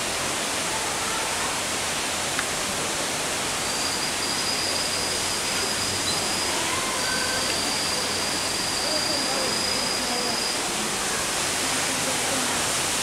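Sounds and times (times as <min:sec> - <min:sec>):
rushing water noise: 0:00.0 - 0:13.0.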